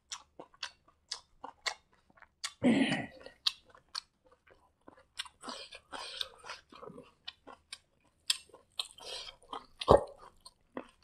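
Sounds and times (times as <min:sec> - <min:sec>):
chewing and mouth smacks: 0:00.0 - 0:02.6, 0:03.2 - 0:11.0.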